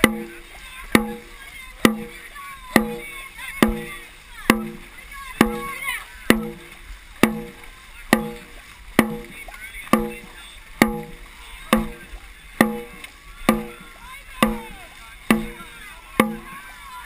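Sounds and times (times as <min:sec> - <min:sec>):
drum beating steadily: 0:00.0 - 0:17.0.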